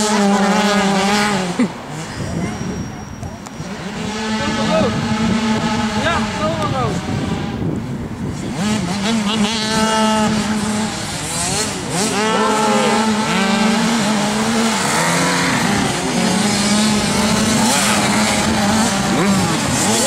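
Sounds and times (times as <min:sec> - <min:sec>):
pit bike engines revving: 0:00.0 - 0:20.0.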